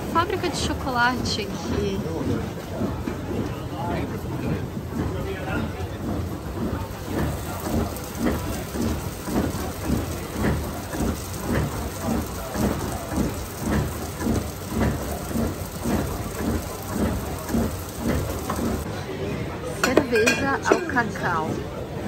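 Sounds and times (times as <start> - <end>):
chocolate grinder rumbling: 0.0 - 22.0.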